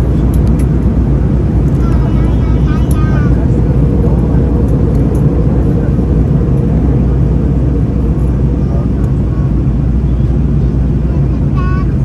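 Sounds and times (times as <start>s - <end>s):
jet airliner cabin noise: 0.0s - 12.0s
faint voices: 1.0s - 12.0s.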